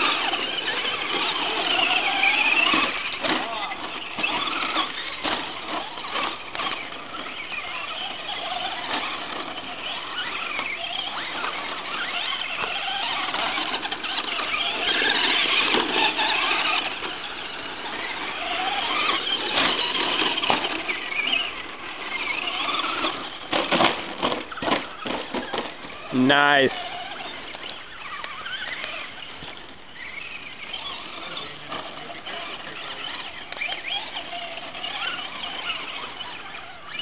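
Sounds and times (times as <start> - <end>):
electric motors whining: 0.0 - 37.0.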